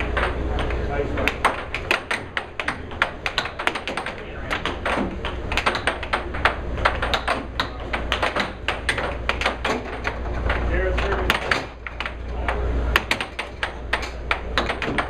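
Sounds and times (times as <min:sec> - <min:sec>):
air hockey puck clacking: 0:00.0 - 0:15.0
air table blower hum: 0:00.0 - 0:15.0.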